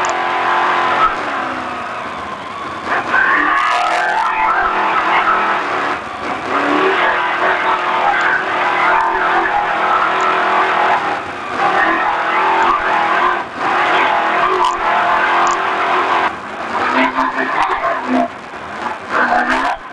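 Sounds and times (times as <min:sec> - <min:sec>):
race truck engine running hard: 0:00.0 - 0:19.9.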